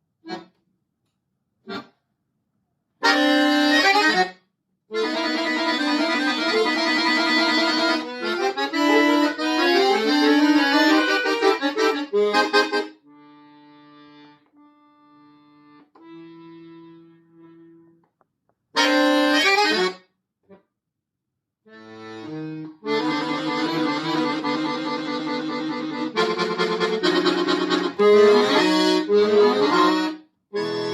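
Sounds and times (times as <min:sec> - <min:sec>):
solo accordion playing: 0:00.2 - 0:00.6, 0:03.0 - 0:18.0, 0:18.8 - 0:20.1, 0:21.7 - 0:30.9.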